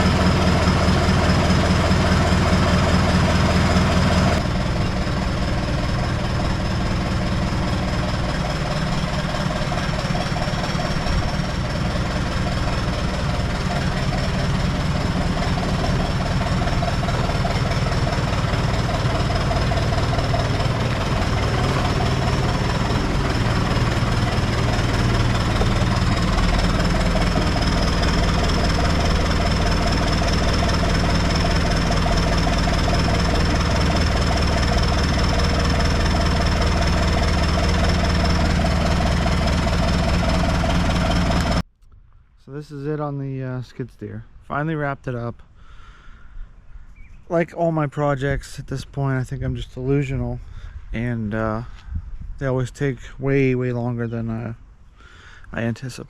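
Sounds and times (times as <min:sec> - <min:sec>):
diesel engine running: 0:00.0 - 0:41.8, 0:43.2 - 0:55.8.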